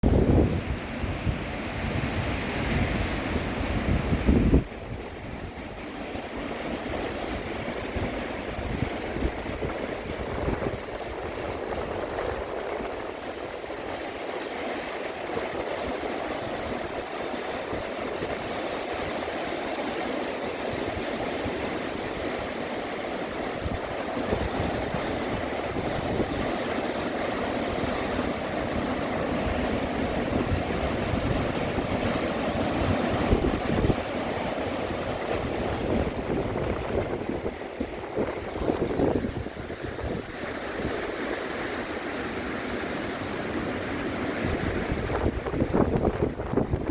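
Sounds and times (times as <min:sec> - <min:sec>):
wind rumbling on microphone: 0:00.0 - 0:19.4, 0:20.6 - 0:42.1, 0:43.6 - 0:46.9
sea waves washing on rocks: 0:00.1 - 0:46.9.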